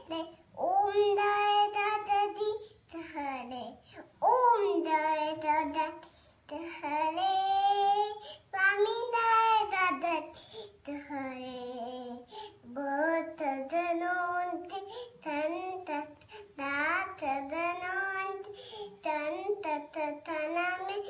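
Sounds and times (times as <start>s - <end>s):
girl singing a hymn: 0.0s - 21.0s.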